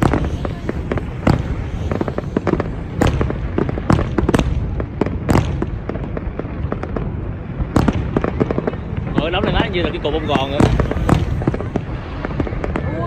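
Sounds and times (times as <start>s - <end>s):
fireworks bangs and crackles: 0.0s - 13.0s
fireworks booms: 0.0s - 13.0s
low rumble: 0.0s - 13.0s.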